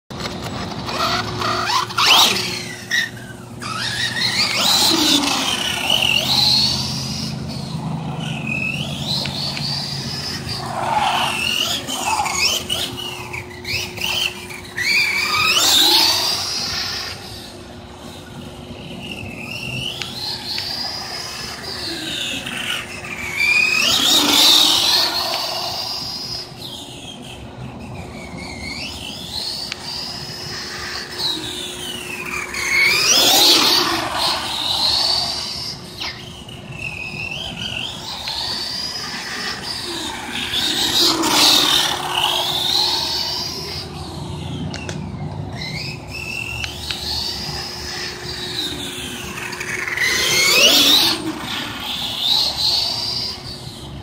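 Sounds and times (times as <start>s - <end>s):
electric motor whine: 0.1s - 54.0s.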